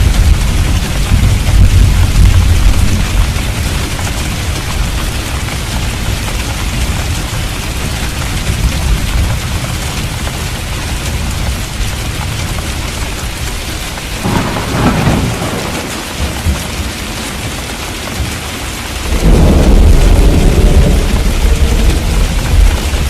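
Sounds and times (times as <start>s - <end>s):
thunder rumbling: 0.0s - 17.5s, 18.9s - 23.0s
steady rain falling: 0.0s - 23.0s.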